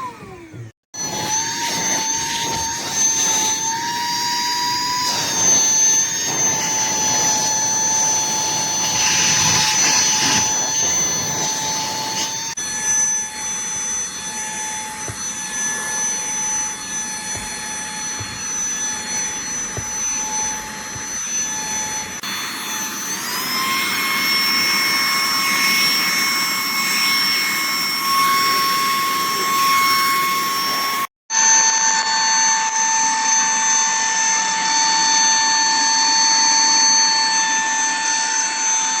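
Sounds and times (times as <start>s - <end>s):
handheld vacuum cleaner whining: 0.0s - 39.0s.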